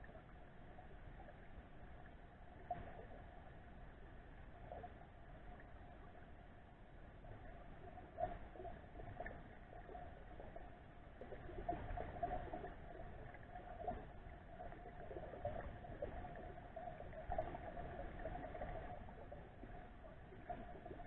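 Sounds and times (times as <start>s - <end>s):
small crackles and clicks: 0.0s - 6.6s, 7.2s - 21.0s
faint steady hum: 0.0s - 21.0s
underwater rumble of moving water: 0.0s - 21.0s.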